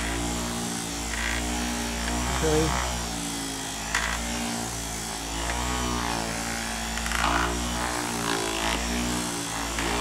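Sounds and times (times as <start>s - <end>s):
orbital sander whirring: 0.0s - 10.0s.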